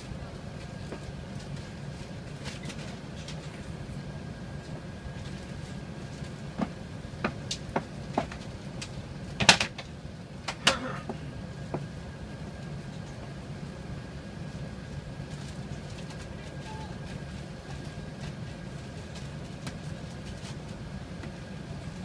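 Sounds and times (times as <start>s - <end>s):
aircraft cabin hum: 0.0s - 22.0s.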